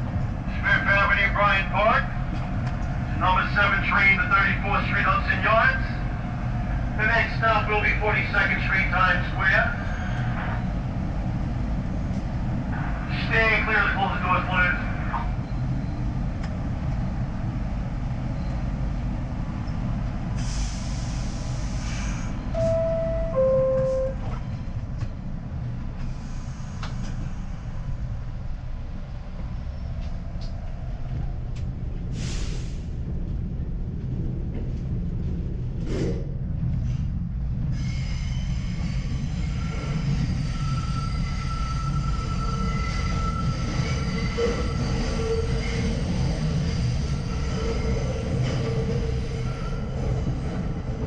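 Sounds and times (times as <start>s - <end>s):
subway train rumbling: 0.0s - 51.0s.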